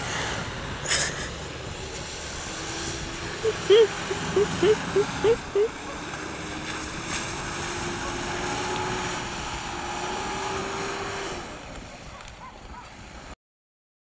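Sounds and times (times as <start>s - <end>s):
car engine revving high: 0.0s - 11.9s.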